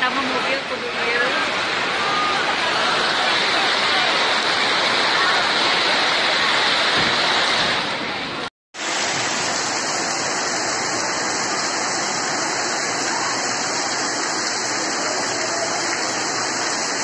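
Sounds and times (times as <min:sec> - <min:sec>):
floodwater gushing and splashing: 0:00.0 - 0:17.0.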